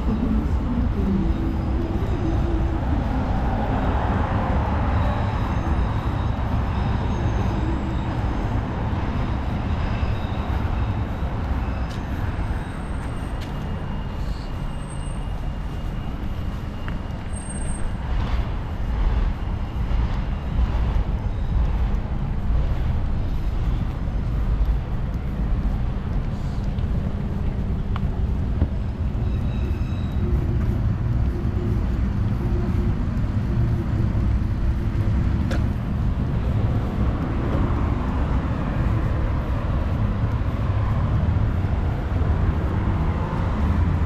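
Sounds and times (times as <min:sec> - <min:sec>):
passing vehicles rumbling: 0:00.0 - 0:44.0.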